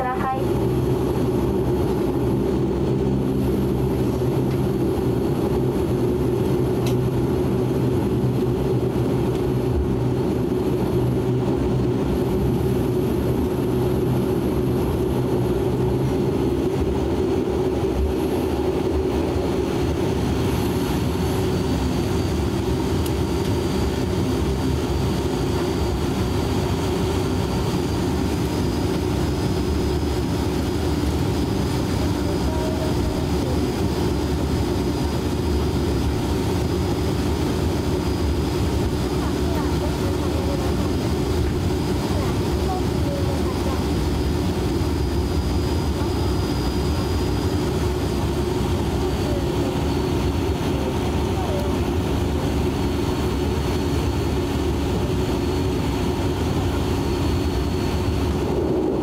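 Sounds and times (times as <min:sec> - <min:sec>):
turboprop engines droning: 0:00.0 - 0:59.0.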